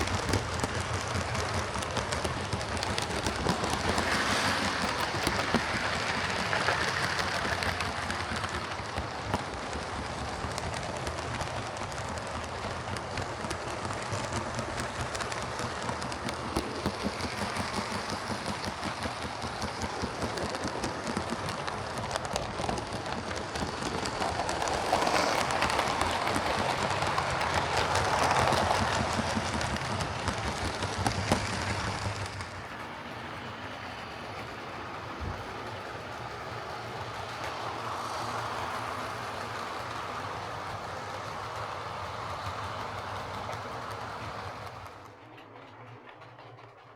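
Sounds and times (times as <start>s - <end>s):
model train motor whirr: 0.0s - 46.9s
wheel rattle on track: 0.0s - 46.9s.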